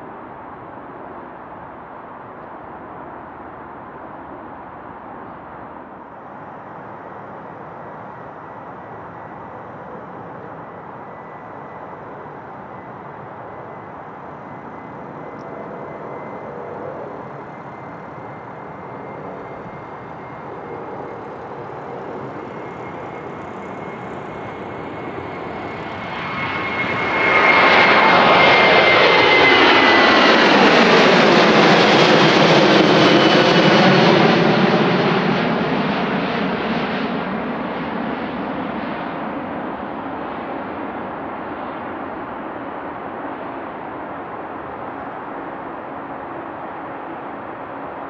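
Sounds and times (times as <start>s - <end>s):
jet airliner taking off: 0.0s - 48.0s.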